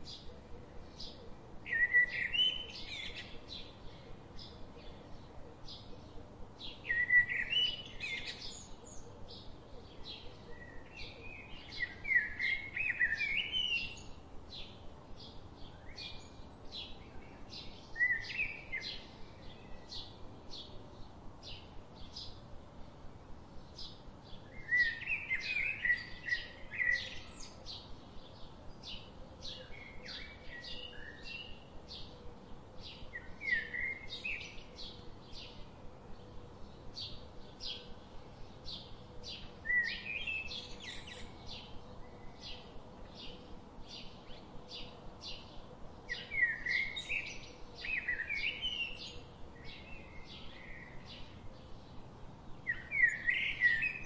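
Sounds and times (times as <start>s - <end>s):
birds chirping: 0.0s - 54.0s
warbled bird song: 0.0s - 54.0s.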